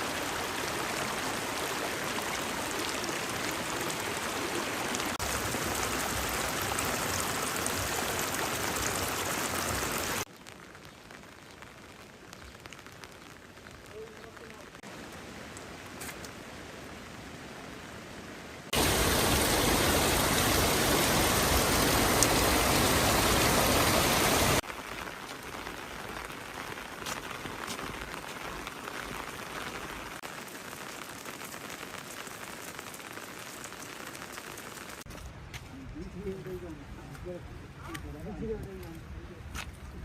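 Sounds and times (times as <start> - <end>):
loud burst of rain noise: 0.0 - 16.0, 18.6 - 35.1
rain hissing: 0.0 - 35.2.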